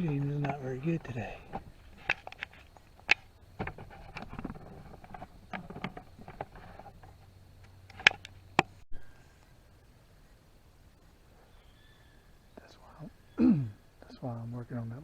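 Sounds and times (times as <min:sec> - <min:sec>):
quiet background noise: 0:00.0 - 0:15.0.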